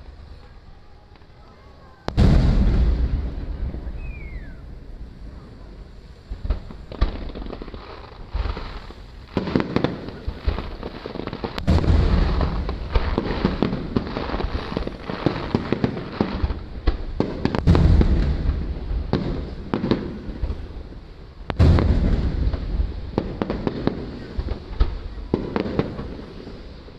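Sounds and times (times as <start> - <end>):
fireworks booming and crackling: 0.0 - 26.9.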